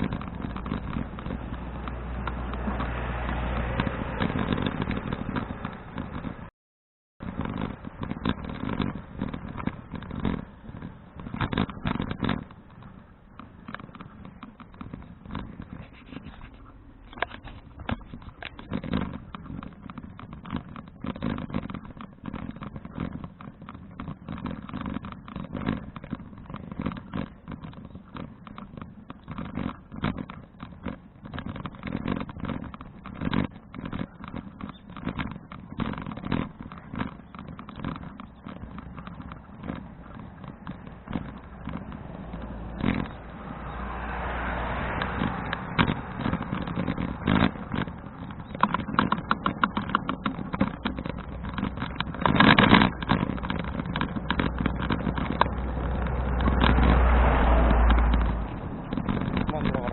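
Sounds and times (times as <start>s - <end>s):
bicycle rattling and clicking: 0.0s - 6.5s, 7.2s - 59.9s
wind buffeting the microphone: 7.2s - 59.9s.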